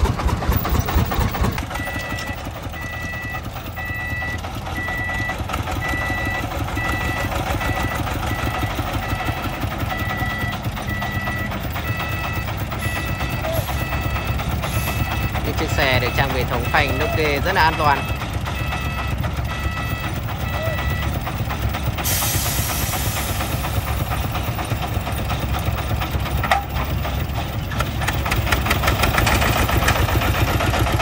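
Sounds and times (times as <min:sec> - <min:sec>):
diesel engine running: 0:00.0 - 0:31.0
reversing alarm beeping: 0:00.6 - 0:27.5.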